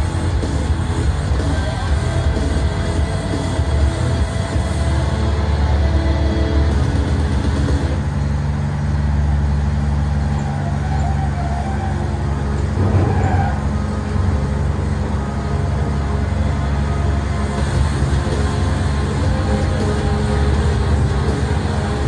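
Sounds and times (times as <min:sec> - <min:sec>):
drilling rig engine running: 0:00.0 - 0:22.0.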